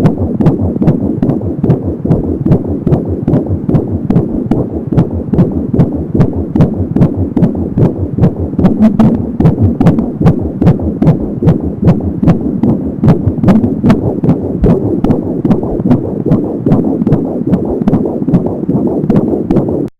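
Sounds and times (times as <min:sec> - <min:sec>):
rapid fetal heartbeat pulsing: 0:00.0 - 0:19.9.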